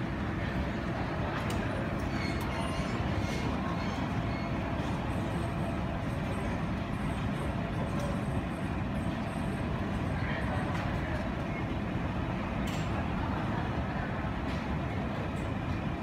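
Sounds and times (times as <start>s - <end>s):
low rumbling terminal noise: 0.0s - 16.0s.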